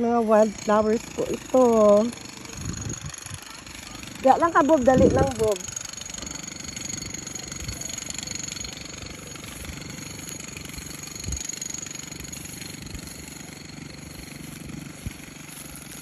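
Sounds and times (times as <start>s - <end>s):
engine throbbing: 0.0s - 16.0s.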